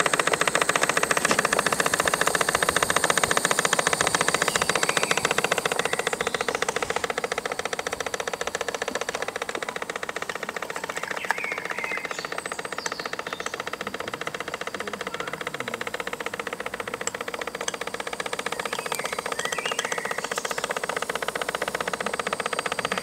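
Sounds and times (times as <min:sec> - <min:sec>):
model steam engine clattering: 0:00.0 - 0:23.0.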